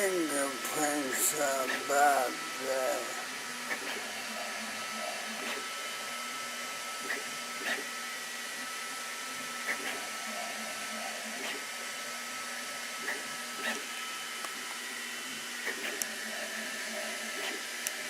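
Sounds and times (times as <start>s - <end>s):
printer fan hiss with whine: 0.0s - 18.0s.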